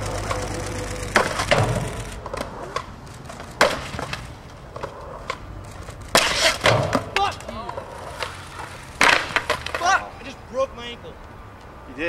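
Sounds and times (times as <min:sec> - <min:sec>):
skateboard slapping down: 0:00.0 - 0:10.0
skateboard wheels rolling: 0:00.0 - 0:10.7.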